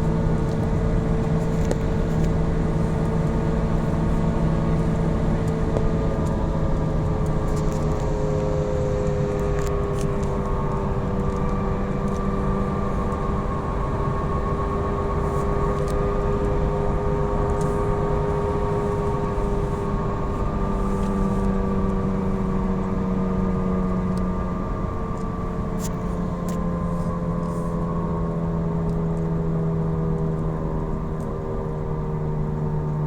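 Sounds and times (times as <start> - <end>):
tyres droning on road: 0.0 - 33.0.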